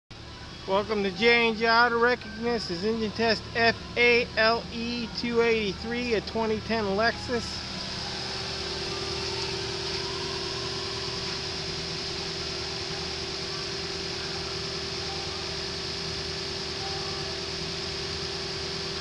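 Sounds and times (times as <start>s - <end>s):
car engine idling: 0.1s - 19.0s
high hum: 0.1s - 19.0s.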